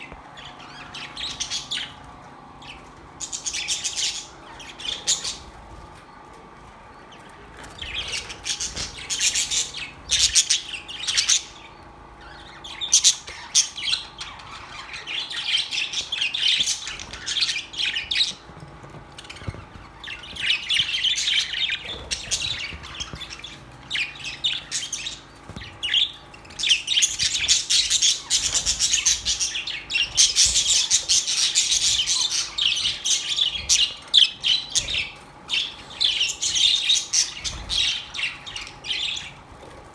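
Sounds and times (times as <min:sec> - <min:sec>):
budgerigars chattering: 0:02.6 - 0:05.7, 0:07.7 - 0:39.8.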